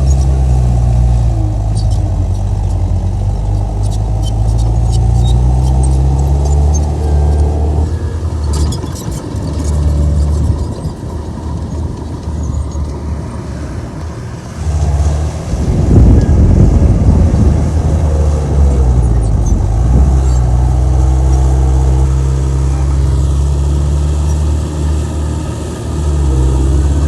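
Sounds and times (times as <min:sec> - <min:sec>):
bulldozer diesel engine: 0:00.0 - 0:27.0.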